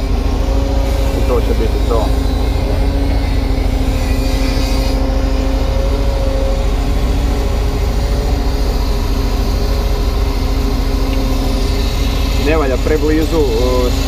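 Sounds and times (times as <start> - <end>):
excavator diesel engine rumbling: 0.0 - 14.0
steady whine: 0.0 - 14.0.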